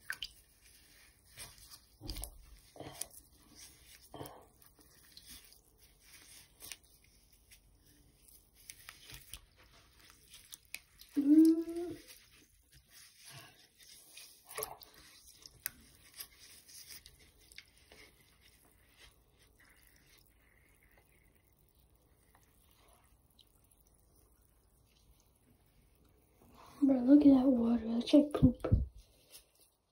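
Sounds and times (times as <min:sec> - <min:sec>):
water sloshing in a sink: 0:00.0 - 0:29.9.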